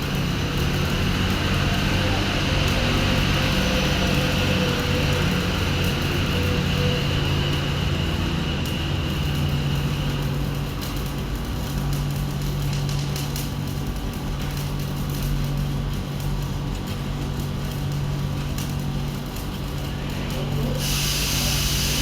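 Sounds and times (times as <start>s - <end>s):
welding arc crackling hiss: 0.0s - 22.0s
welding machine humming: 0.0s - 22.0s.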